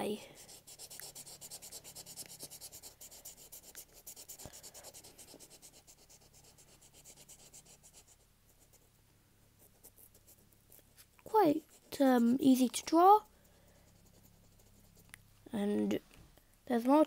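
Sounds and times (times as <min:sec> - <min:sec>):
marker pen scribbling on paper: 0:00.3 - 0:08.9, 0:09.6 - 0:15.2.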